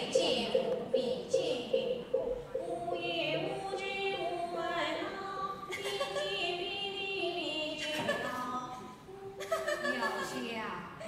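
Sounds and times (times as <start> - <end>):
woman singing opera: 0.0 - 9.0.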